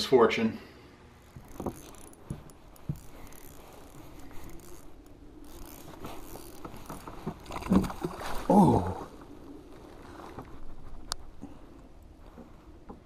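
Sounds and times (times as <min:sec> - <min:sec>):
soft rustling: 0:01.2 - 0:13.0.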